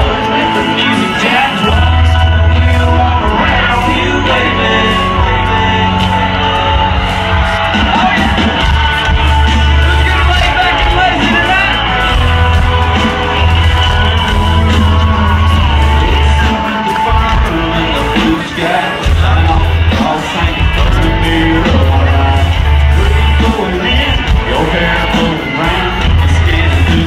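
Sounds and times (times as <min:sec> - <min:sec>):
country-rock band playing: 0:00.0 - 0:27.0
crowd shouting: 0:00.0 - 0:27.0
heavy pulsing bass: 0:00.0 - 0:27.0
person singing: 0:00.0 - 0:27.0.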